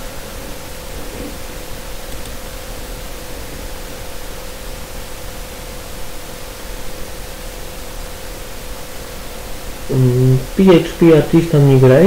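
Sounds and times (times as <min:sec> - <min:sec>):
faint hum-like tone: 0:00.0 - 0:12.0
microphone hiss: 0:00.0 - 0:12.0.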